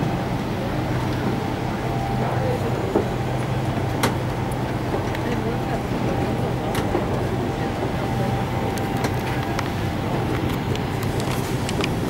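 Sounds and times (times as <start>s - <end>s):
ship engines humming: 0.0s - 12.0s.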